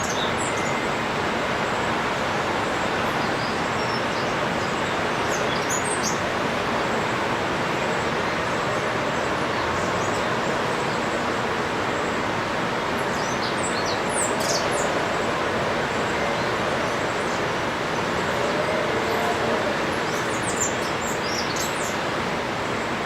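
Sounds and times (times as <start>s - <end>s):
steady rushing background noise: 0.0s - 23.0s.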